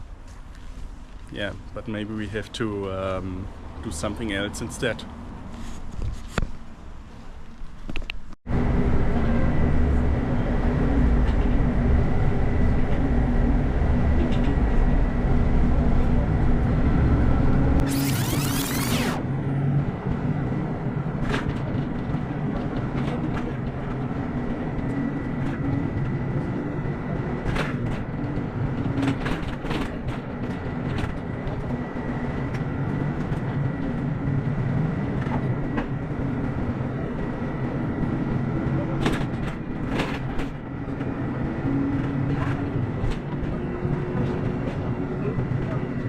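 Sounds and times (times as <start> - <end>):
bus engine rumble: 0.0 - 46.0.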